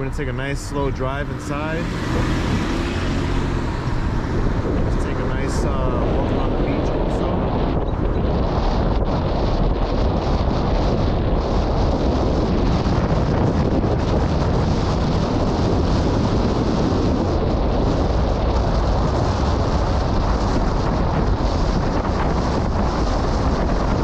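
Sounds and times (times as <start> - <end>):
car driving slowly: 0.0 - 24.0
wind blowing on microphone: 0.0 - 24.0.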